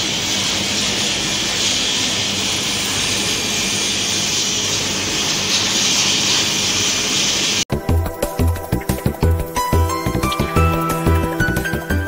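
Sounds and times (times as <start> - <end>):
loud machine hiss: 0.0 - 12.0.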